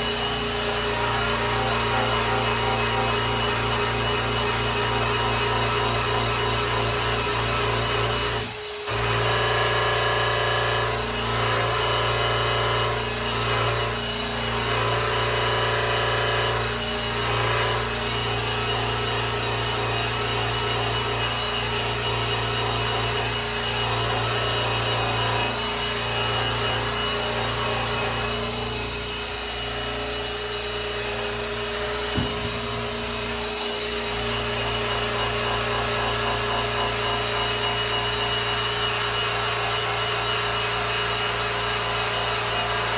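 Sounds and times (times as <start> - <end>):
electric polisher running: 0.0 - 42.9.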